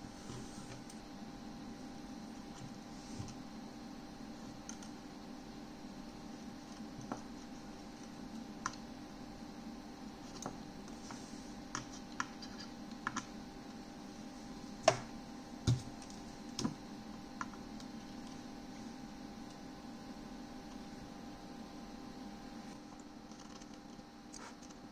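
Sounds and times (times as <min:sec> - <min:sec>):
steady hum: 0:00.0 - 0:24.9.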